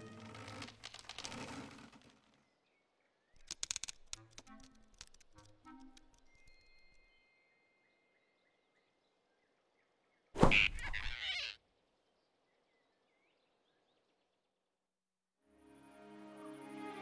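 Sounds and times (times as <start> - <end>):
faint forest ambience: 0.0 - 14.9.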